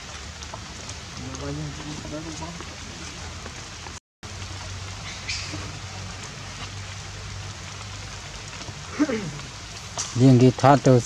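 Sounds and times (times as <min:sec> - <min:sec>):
light rain falling: 0:00.0 - 0:11.0.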